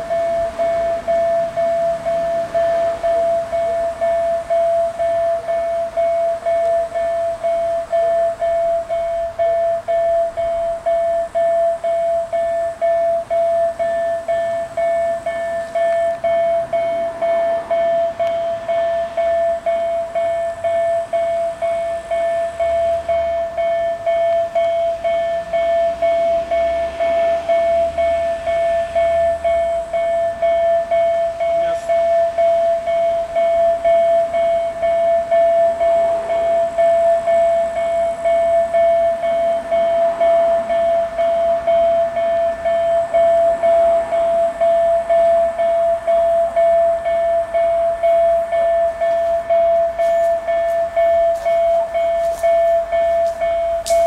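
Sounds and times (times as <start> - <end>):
level-crossing warning bell ringing: 0.0 - 54.0.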